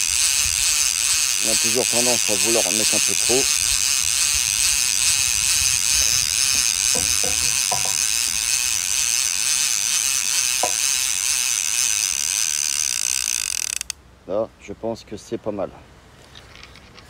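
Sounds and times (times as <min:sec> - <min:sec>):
fishing reel whirring: 0:00.0 - 0:14.0.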